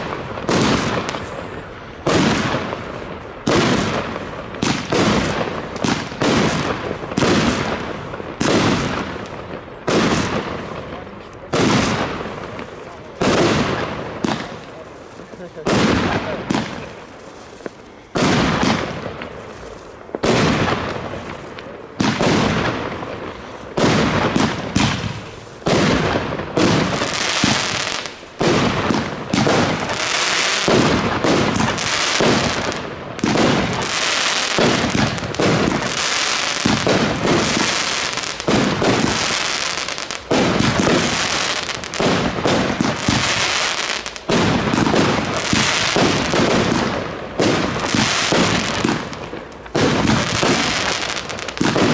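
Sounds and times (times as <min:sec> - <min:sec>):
fireworks battery shots: 0:00.0 - 0:51.9.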